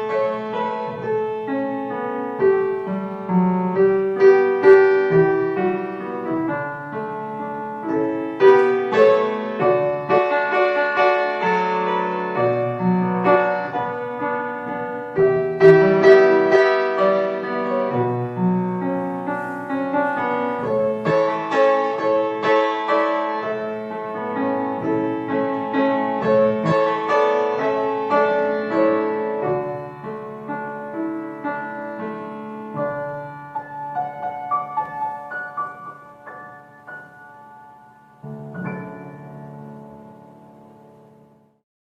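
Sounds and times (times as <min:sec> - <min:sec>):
slow ambient piano music: 0:00.0 - 0:41.6.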